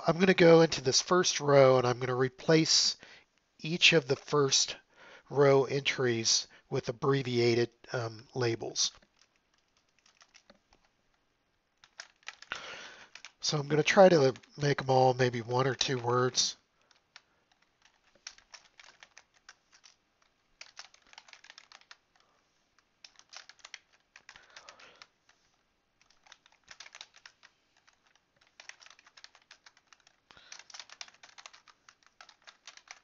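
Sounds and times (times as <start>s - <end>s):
faint keyboard typing: 0.0s - 4.8s, 5.4s - 33.0s.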